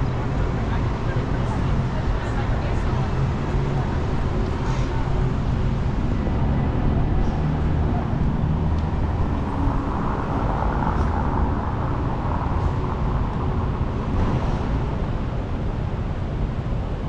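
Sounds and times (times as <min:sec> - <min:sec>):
street traffic passing: 0:00.0 - 0:17.0.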